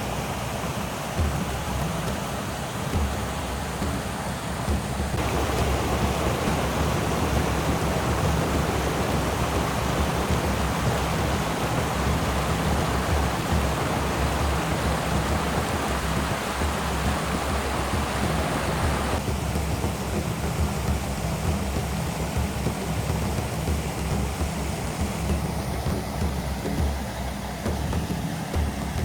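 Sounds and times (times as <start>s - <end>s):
creek water rushing over rapids: 0.0s - 29.0s.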